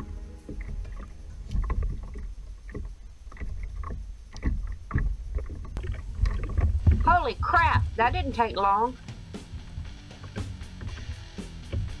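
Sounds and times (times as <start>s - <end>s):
low wind rumble: 0.0s - 11.2s
water lapping: 0.0s - 12.0s.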